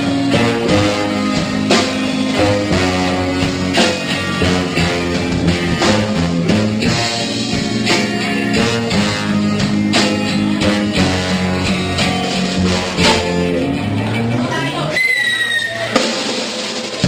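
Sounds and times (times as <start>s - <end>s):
drums keeping a steady beat: 0.0s - 17.0s
guitar: 0.0s - 17.0s
rock band playing: 0.0s - 17.0s.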